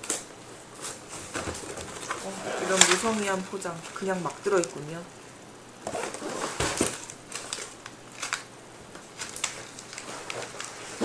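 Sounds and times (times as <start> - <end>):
packaging rustling and crinkling: 0.0 - 4.8, 5.8 - 11.0.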